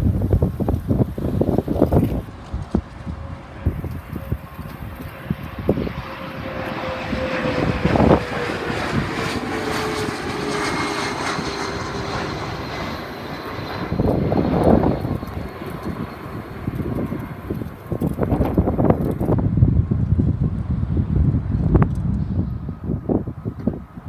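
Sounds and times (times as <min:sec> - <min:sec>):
jet engines passing: 0:00.0 - 0:24.0
wind buffeting microphone: 0:00.0 - 0:24.0.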